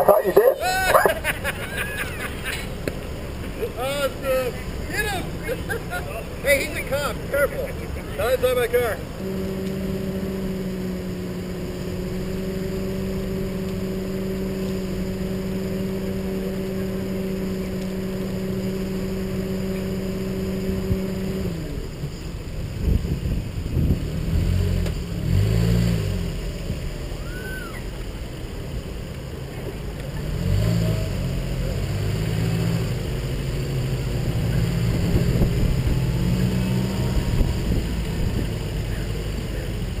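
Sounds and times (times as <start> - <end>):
car engine running: 0.0 - 40.0
road and wind noise: 0.0 - 40.0.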